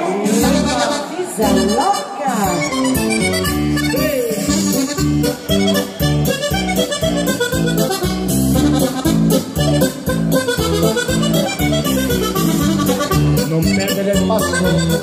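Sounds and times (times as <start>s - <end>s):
accordion playing polka: 0.0s - 15.0s.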